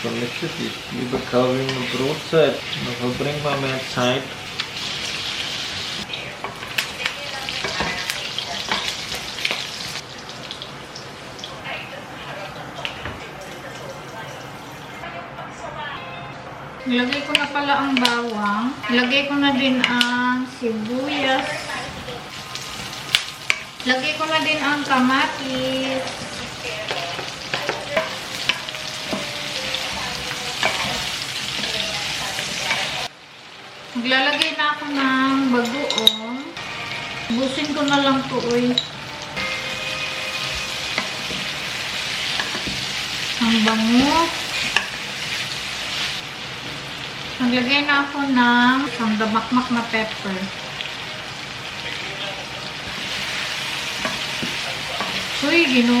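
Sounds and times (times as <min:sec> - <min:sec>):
meat sizzling in a pan: 0:00.0 - 0:14.9, 0:17.3 - 0:35.9, 0:36.6 - 0:56.0.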